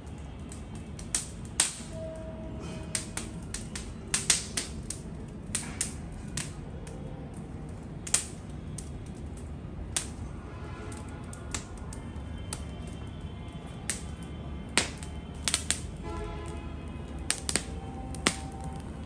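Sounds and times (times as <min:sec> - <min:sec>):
open fire crackling: 0:00.0 - 0:19.0
sharp pops of fire: 0:00.1 - 0:19.0.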